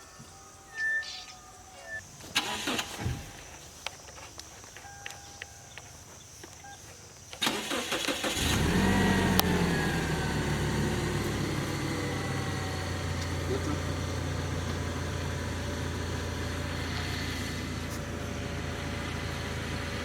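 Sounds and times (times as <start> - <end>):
car engine cranking and idling: 2.2 - 20.0.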